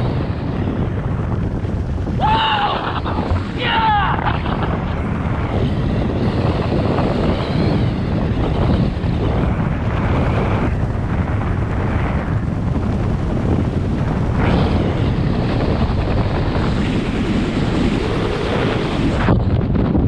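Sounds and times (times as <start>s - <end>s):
air rushing past microphone: 0.0s - 20.0s.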